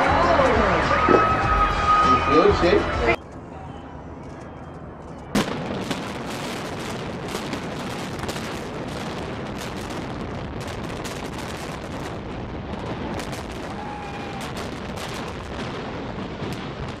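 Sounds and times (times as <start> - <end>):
low rumble of collapsing structure: 3.2 - 17.0.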